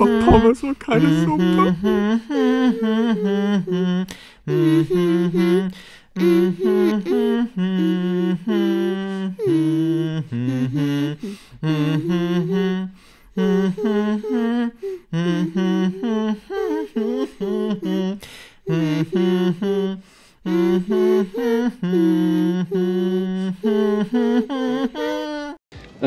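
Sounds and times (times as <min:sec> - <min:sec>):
person singing wordless melody: 0:00.0 - 0:25.6.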